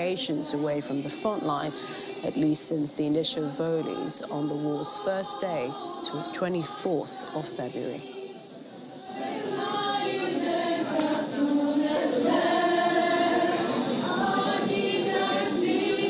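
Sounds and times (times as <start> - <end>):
crowd singing a folk song: 0.0 - 16.0.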